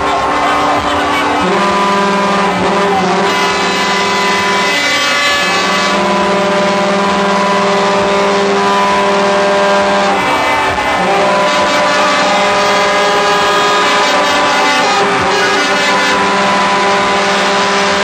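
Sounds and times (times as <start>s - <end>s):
truck air horns blowing: 0.0s - 18.0s.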